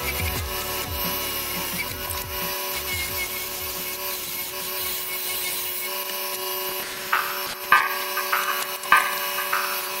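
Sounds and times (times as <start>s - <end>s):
gouge scraping spinning wood: 0.0s - 10.0s
wood lathe motor whine: 0.0s - 10.0s.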